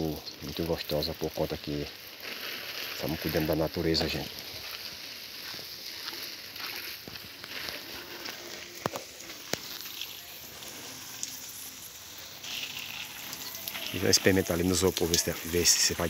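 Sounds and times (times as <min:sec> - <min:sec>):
water spraying on plants: 0:00.0 - 0:16.0.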